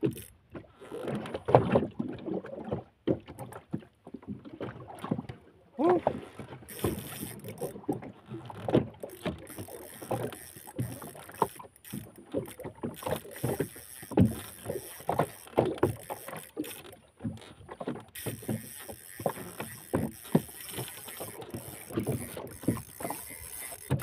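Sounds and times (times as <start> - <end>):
water slapping against boat hull: 0.0 - 24.0.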